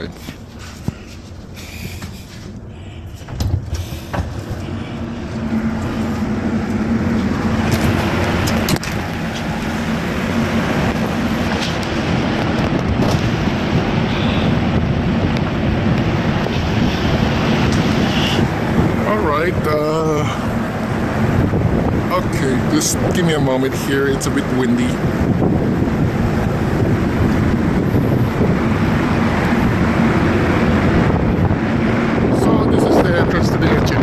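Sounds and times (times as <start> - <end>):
low machinery drone: 0.0 - 34.0
wind buffeting microphone: 0.0 - 34.0.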